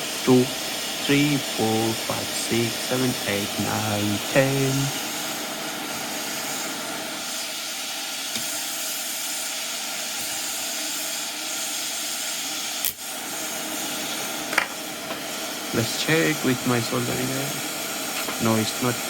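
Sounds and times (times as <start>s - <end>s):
hot air blower hissing: 0.0s - 19.0s.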